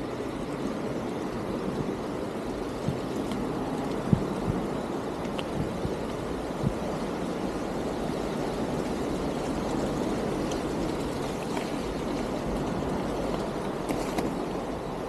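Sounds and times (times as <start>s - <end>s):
bike tyres on trail: 0.0s - 15.0s
wind on microphone: 0.0s - 15.0s.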